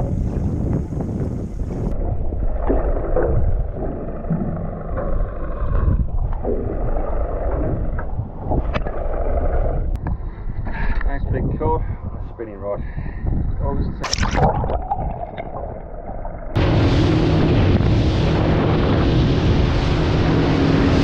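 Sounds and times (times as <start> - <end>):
muffled underwater churning: 0.0 - 10.6, 12.8 - 21.0
water noise: 0.0 - 10.6, 12.9 - 21.0
wind on microphone: 0.0 - 21.0.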